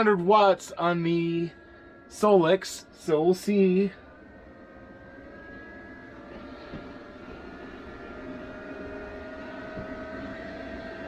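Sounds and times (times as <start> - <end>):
cooling fans rushing whoosh: 0.0 - 11.0
whining fan tones: 0.0 - 11.0.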